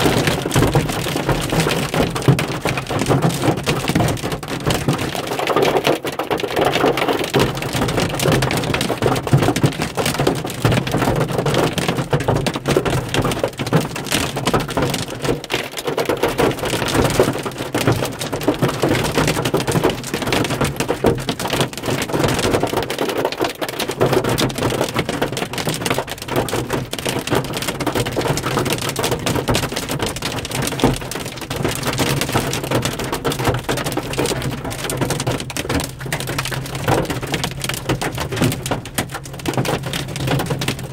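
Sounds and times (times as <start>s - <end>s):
hail hitting a car roof: 0.0s - 40.9s.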